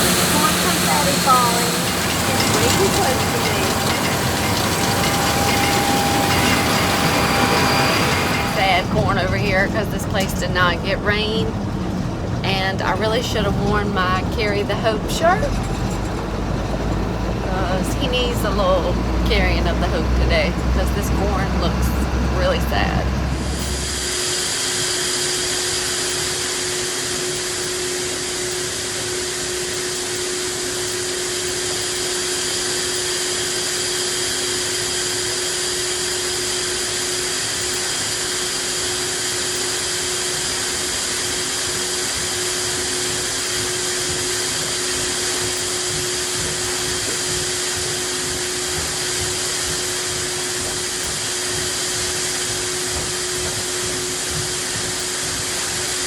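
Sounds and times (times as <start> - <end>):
farm machinery drone: 0.0 - 56.0
high even whines: 0.0 - 56.0.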